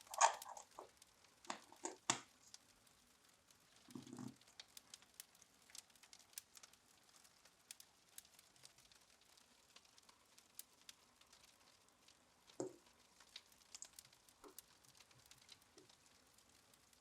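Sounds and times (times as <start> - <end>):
faint clicks and crackles: 0.0 - 17.0.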